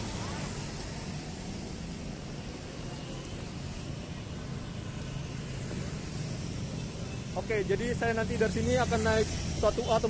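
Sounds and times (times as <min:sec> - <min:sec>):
cars and motorbikes passing: 0:00.0 - 0:10.0.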